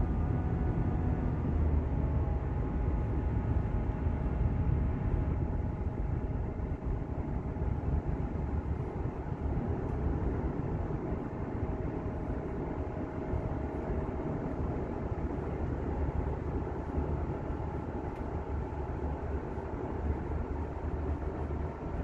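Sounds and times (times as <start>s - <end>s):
car cabin road and engine noise: 0.0s - 22.0s.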